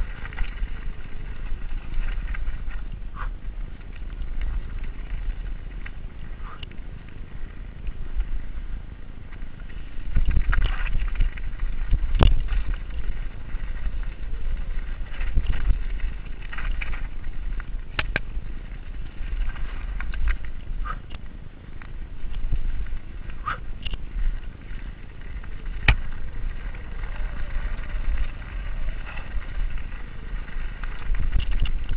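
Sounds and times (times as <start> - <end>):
bike rattling and clicking: 0.0 - 31.9
tyres on dirt trail: 0.0 - 31.9
wind rumbling on microphone: 0.0 - 31.9.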